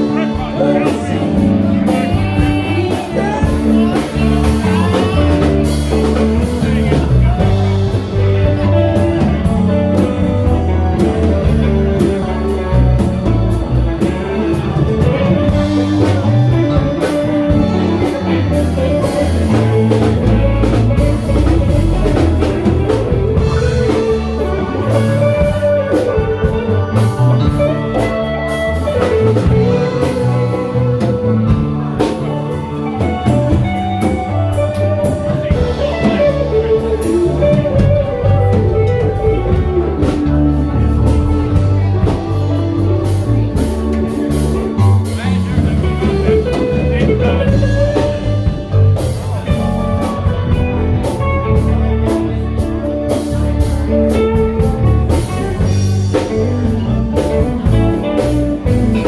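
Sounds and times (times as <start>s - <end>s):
guitar: 0.0s - 59.0s
live band playing blues: 0.0s - 59.0s.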